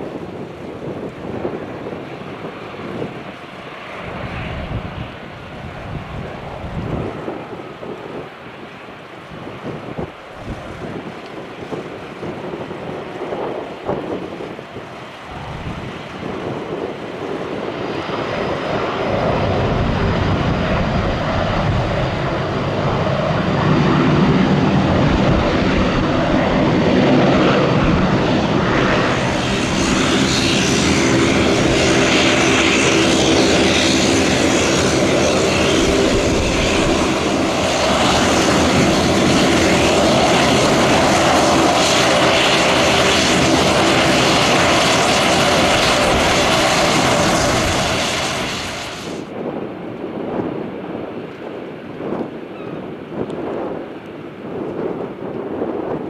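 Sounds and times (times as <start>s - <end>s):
turboprop plane taxiing: 0.0s - 56.0s.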